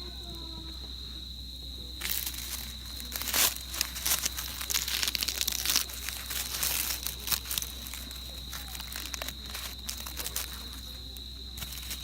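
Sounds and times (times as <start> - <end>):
high-pitched insect trill: 0.0 - 12.0
crinkling crackly rustling: 0.1 - 12.0.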